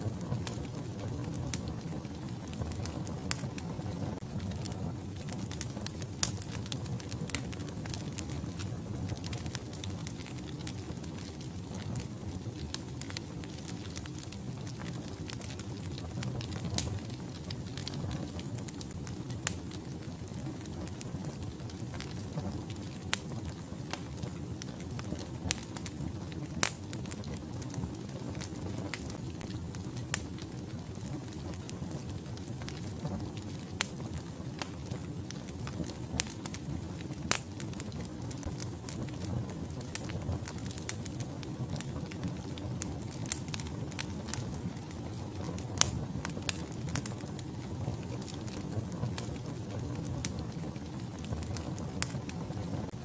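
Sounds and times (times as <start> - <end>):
fire crackling and popping: 0.0 - 53.0
low rumble of flames: 0.0 - 53.0.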